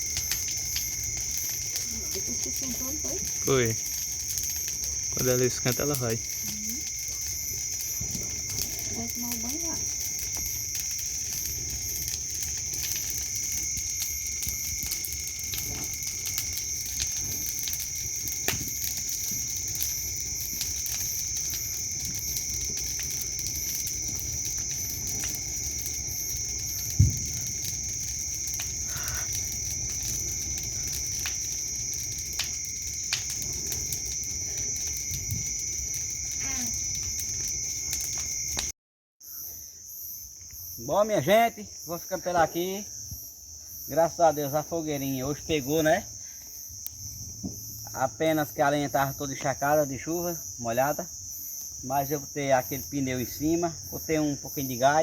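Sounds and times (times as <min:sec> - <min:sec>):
bonfire crackling and popping: 0:00.0 - 0:38.7, 0:40.4 - 0:55.0
crickets chirping: 0:00.0 - 0:55.0.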